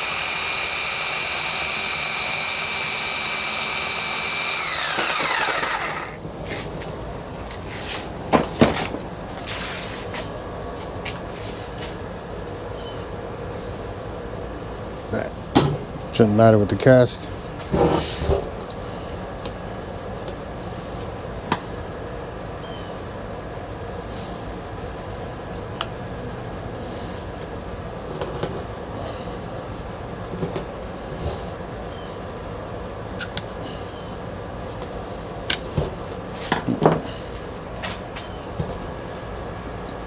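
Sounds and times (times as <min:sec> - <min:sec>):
background hum: 0:00.0 - 0:40.0.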